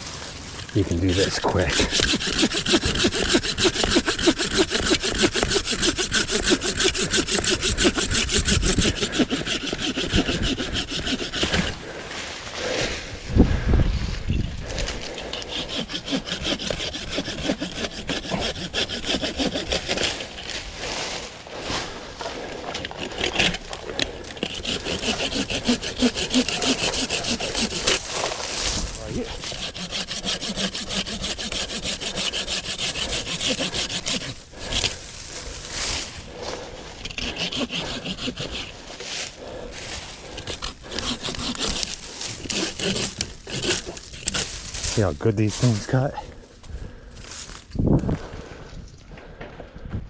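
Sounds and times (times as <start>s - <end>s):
handsaw cutting stems: 0.6s - 12.0s, 14.6s - 46.1s.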